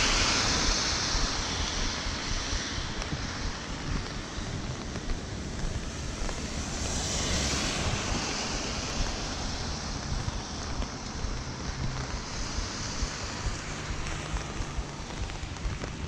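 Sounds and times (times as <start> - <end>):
car tyres hissing on wet road: 0.0 - 16.0
rain on umbrella and pavement: 0.0 - 16.0
wind buffeting microphone: 0.0 - 16.0.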